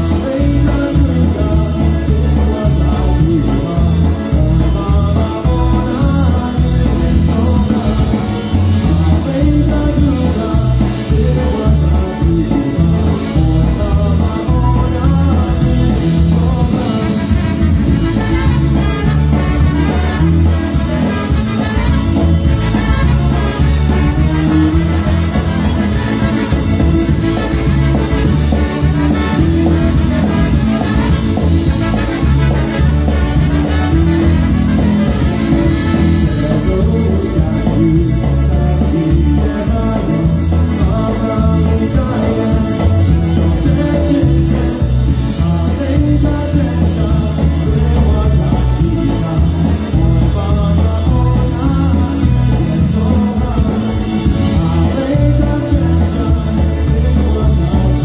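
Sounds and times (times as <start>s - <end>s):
polka band playing: 0.0s - 58.0s.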